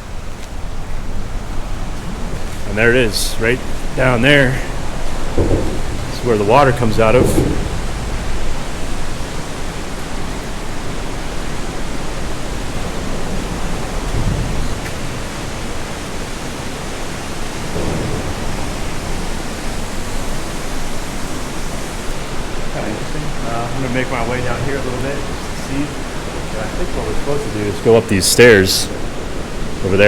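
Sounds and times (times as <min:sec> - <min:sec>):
water pouring from dam outlet: 0:00.0 - 0:30.0.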